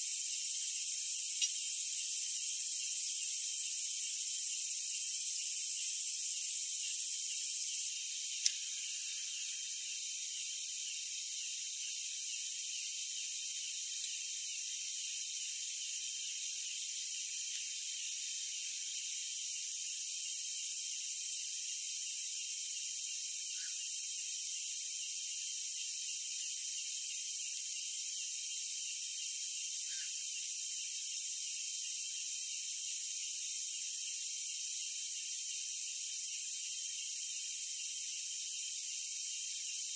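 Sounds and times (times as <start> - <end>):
night insects chirring: 0.0 - 39.9.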